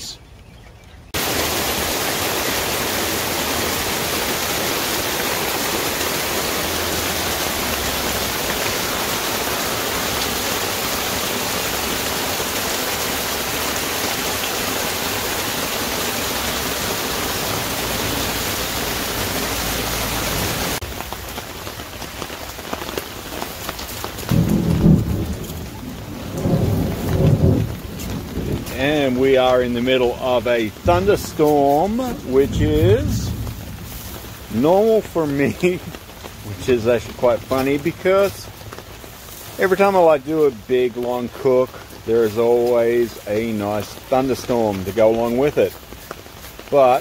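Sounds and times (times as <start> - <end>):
heavy rain pouring: 1.0 - 47.0.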